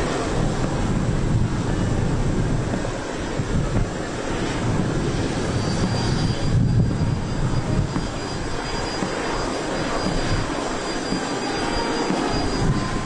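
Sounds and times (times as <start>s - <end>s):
faint high whine: 0.0s - 13.0s
jet engines rumbling: 0.0s - 13.0s.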